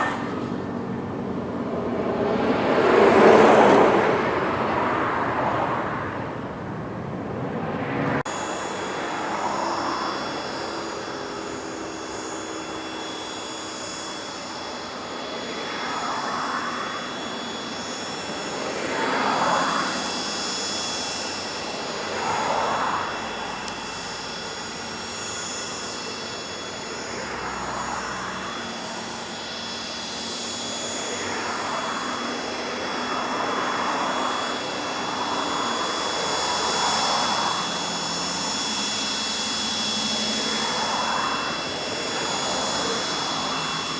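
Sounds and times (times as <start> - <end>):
jet engine whine: 0.0 - 43.9
rushing jet noise: 0.0 - 43.9.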